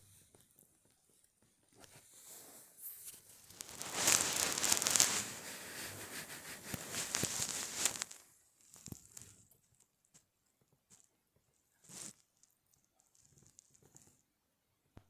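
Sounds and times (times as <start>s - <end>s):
crinkling rustling with crackles: 0.0s - 14.4s.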